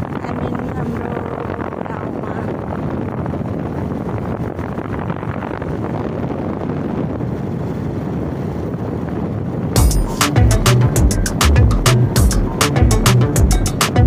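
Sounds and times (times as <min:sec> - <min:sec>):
motorcycle road noise: 0:00.0 - 0:14.0
wind rushing over microphone: 0:00.0 - 0:14.0.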